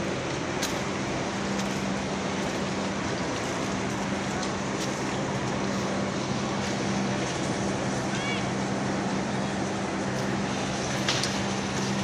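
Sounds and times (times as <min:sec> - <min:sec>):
rushing machinery noise: 0:00.0 - 0:12.0.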